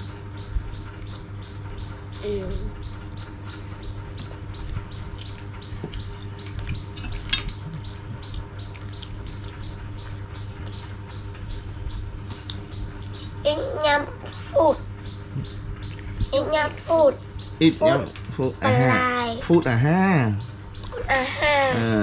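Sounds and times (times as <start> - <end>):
fast even ticking: 0.0 - 18.6
steady low hum: 0.0 - 22.0.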